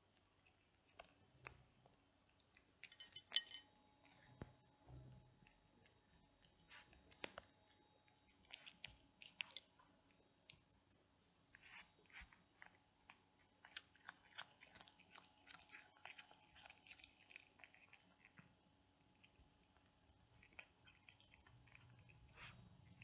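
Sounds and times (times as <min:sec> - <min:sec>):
cat chewing food: 0:00.0 - 0:23.0.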